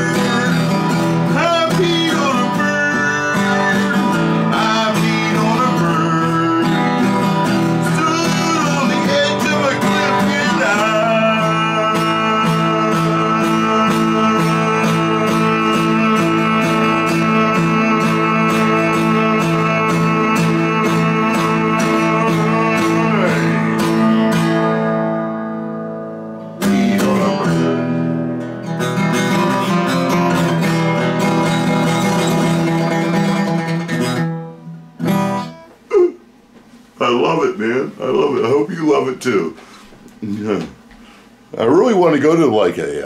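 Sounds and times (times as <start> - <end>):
acoustic guitar strumming: 0.0 - 42.9.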